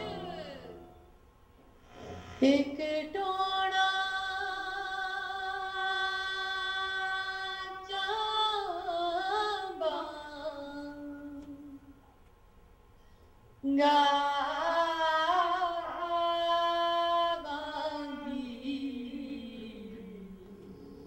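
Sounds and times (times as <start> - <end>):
woman singing unaccompanied: 0.0 - 0.9, 2.4 - 11.9, 13.6 - 20.8.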